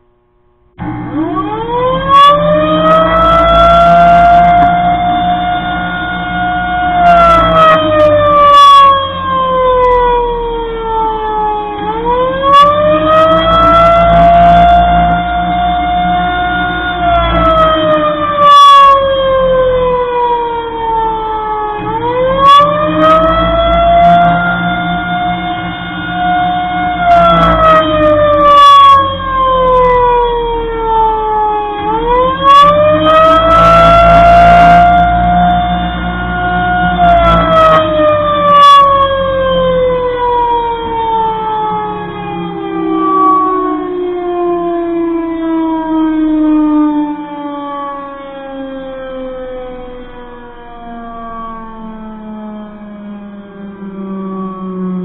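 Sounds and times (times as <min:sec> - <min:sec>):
warning siren sliding in pitch: 0:00.7 - 0:55.0.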